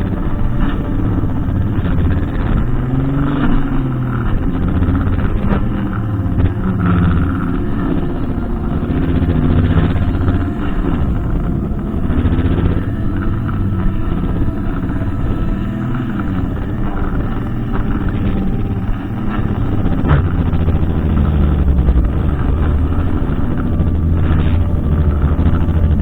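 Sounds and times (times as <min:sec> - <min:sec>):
brushcutter engine running: 0:00.0 - 0:26.0.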